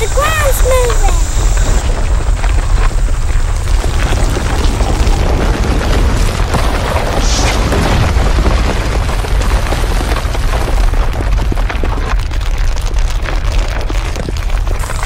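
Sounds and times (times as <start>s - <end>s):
deep rumble with crackling: 0.0s - 15.0s.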